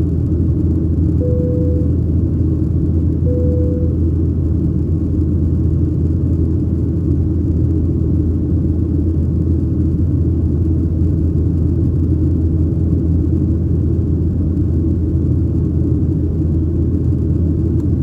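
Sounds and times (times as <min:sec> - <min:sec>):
airplane cabin engine drone: 0:00.0 - 0:18.0.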